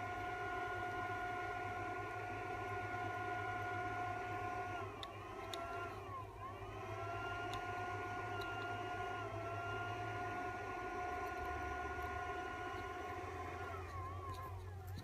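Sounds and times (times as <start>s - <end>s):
induction heater high-pitched tone: 0.0s - 15.0s.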